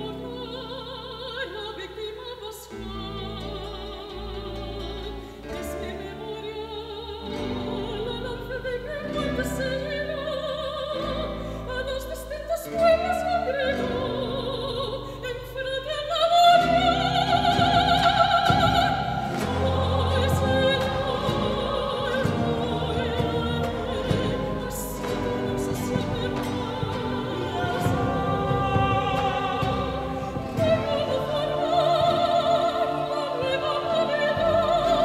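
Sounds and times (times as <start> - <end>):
choir and instruments: 0.0 - 35.0
woman singing operatically: 0.0 - 35.0.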